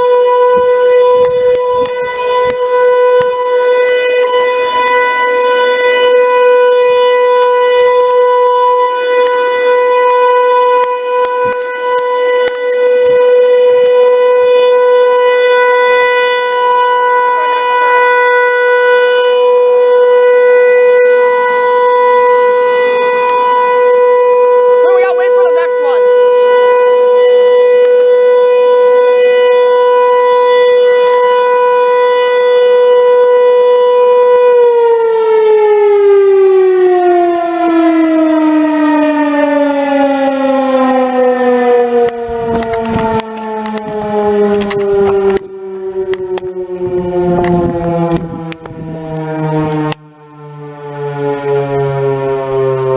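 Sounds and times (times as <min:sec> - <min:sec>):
warning siren steady tone: 0:00.0 - 0:52.9.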